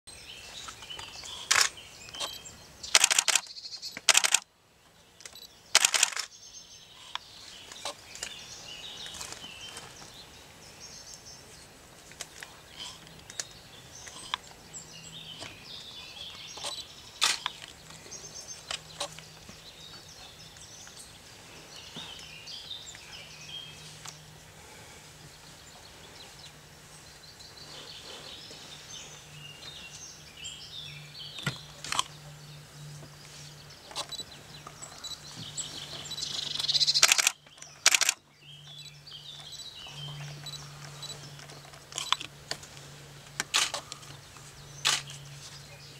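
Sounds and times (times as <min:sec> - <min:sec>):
birds chirping and singing: 0:00.1 - 0:45.9.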